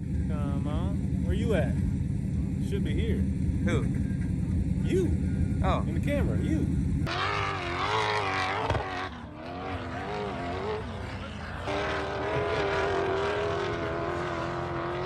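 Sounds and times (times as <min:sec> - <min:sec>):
off-road vehicle engines revving: 0:00.0 - 0:15.0.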